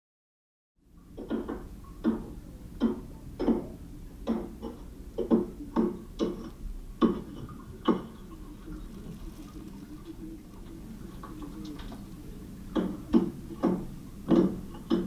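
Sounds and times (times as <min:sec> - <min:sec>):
low steady hum: 0:00.8 - 0:15.0.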